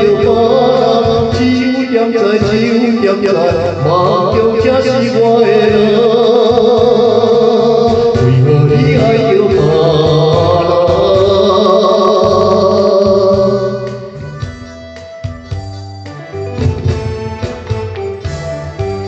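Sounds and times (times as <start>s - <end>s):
ballad music: 0.0s - 19.0s
keyboard notes: 0.0s - 19.0s.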